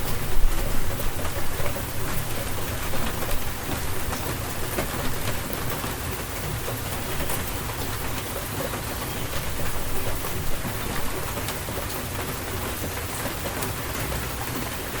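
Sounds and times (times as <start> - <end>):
continuous low rumble: 0.0 - 15.0
rain falling: 0.0 - 15.0.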